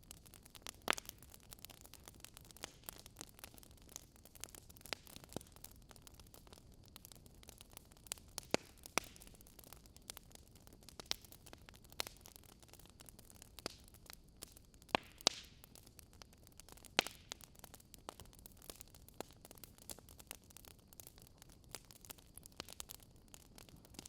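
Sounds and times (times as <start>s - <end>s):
faint fire hiss: 0.0s - 24.0s
wood fire crackling: 0.0s - 24.0s.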